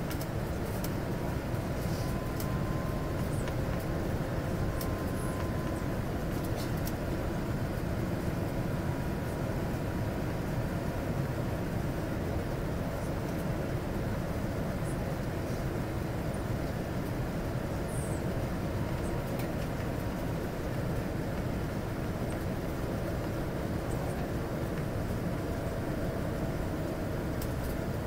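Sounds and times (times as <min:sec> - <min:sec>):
airliner cabin rumble: 0:00.0 - 0:28.0
faint steady whine: 0:00.0 - 0:28.0.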